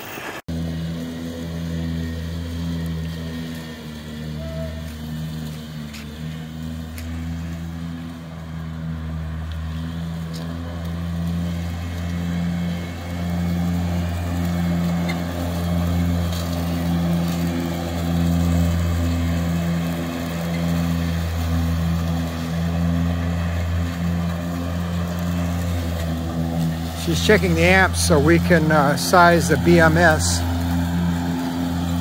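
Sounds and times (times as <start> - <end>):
electric lawn tractor motor humming: 0.0 - 32.0.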